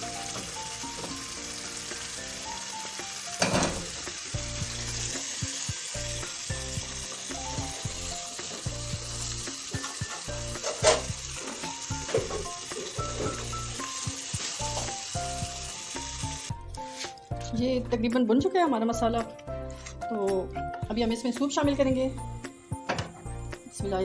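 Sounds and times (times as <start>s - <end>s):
meat sizzling in a frying pan: 0.0s - 17.4s, 21.2s - 24.0s.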